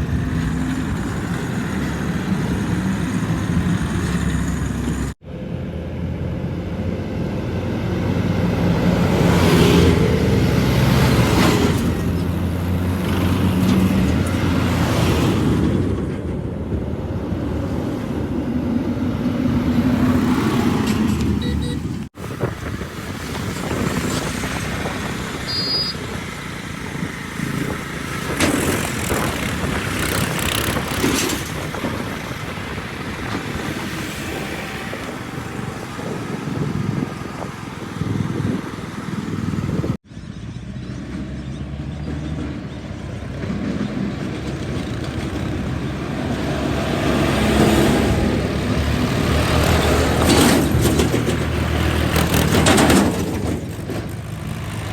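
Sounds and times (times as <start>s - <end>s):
diesel engines under load: 0.0s - 54.9s.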